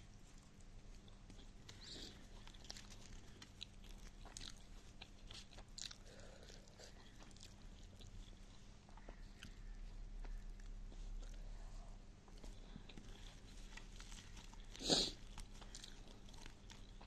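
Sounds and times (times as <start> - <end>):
person chewing food: 0.2 - 17.0.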